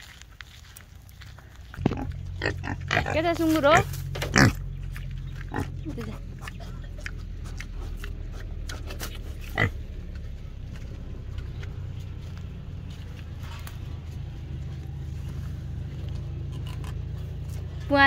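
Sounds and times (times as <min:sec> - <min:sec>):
pigs grunting and snuffling: 0:00.0 - 0:18.0
steady low hum: 0:01.5 - 0:18.0.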